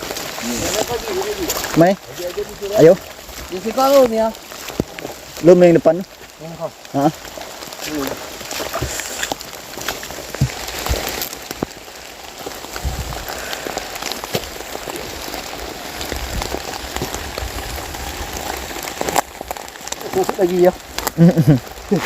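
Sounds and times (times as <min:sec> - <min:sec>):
sharp raindrops hitting close by: 0:00.0 - 0:22.0
steady rain: 0:00.0 - 0:22.0.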